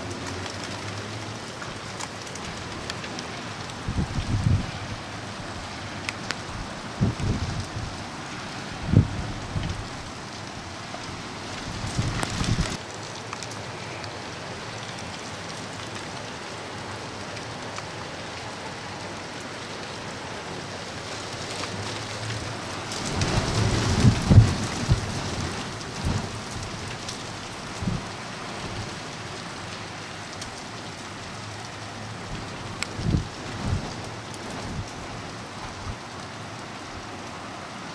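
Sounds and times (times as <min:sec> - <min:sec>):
freezing rain hissing: 0:00.0 - 0:37.9.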